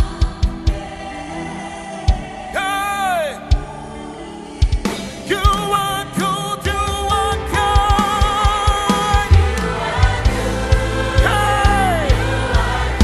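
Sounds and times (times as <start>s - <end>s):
gospel band with bass and drums: 0.0s - 13.0s.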